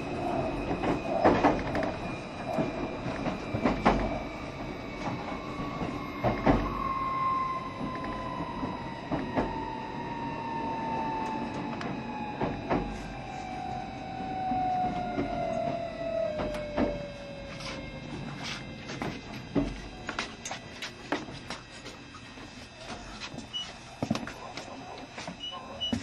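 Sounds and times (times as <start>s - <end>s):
rail joint clacks: 0.0s - 9.8s, 10.8s - 22.0s
electric train motor whine: 0.0s - 24.2s
rumble of train wheels: 0.0s - 26.0s.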